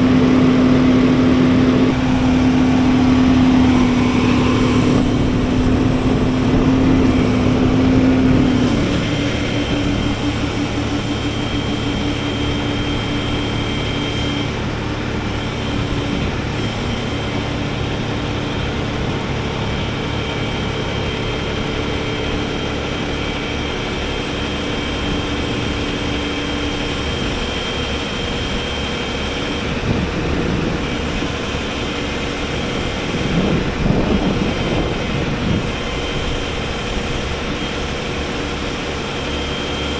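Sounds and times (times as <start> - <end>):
diesel truck engine running: 0.0 - 39.9
thin high whine: 0.0 - 39.9.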